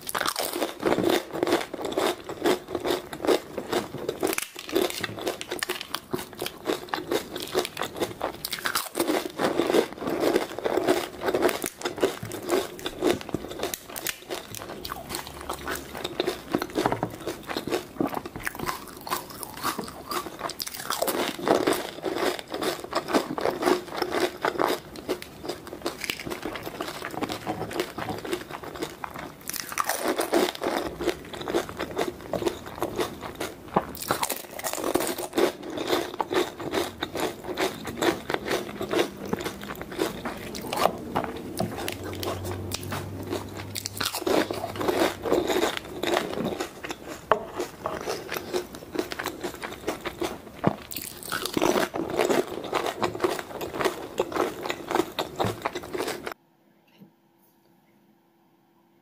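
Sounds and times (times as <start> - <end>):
crisp shells crunching in mouth: 0.0 - 56.4
wet chewing: 0.0 - 56.4.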